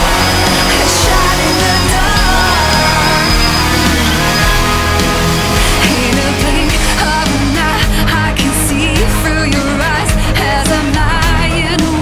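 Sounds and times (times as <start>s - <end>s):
rock-pop song with singing: 0.0s - 12.0s.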